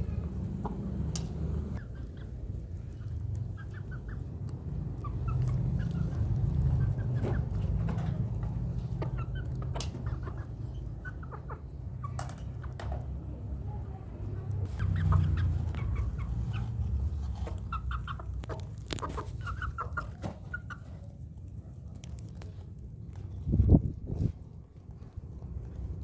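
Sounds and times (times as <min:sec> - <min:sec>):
chickens clucking: 0:00.0 - 0:22.5
low steady rumble: 0:00.0 - 0:26.0.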